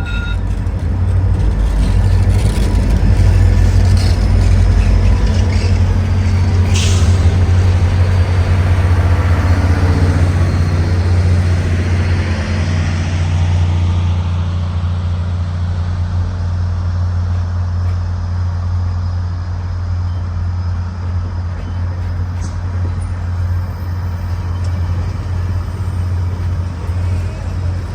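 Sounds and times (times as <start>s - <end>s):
diesel locomotive engine droning: 0.0s - 27.9s.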